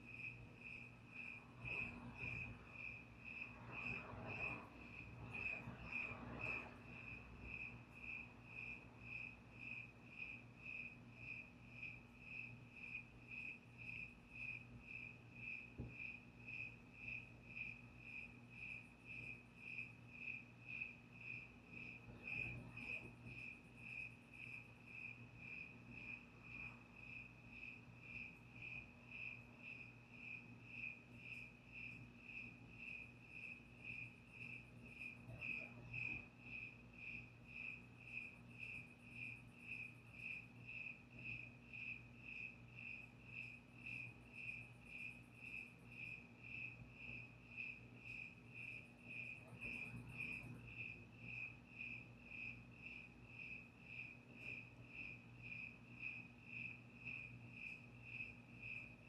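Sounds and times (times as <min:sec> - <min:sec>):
cricket chirping: 0:00.0 - 0:59.0
faint low hum: 0:00.0 - 0:59.0.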